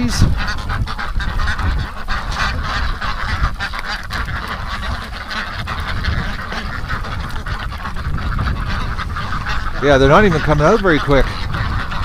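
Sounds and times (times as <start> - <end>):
ducks quacking: 0.0 - 12.0
geese honking: 0.0 - 12.0
wind rumble on microphone: 0.0 - 12.0.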